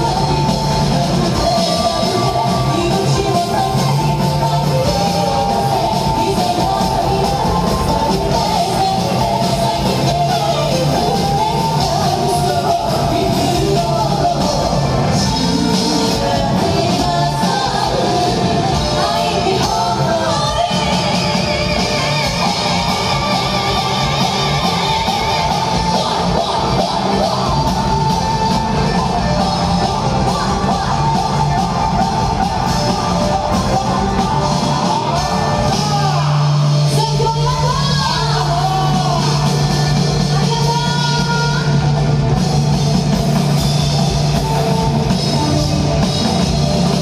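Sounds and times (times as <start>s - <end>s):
person singing: 0.0s - 42.3s
live folk-rock band playing: 0.0s - 47.0s.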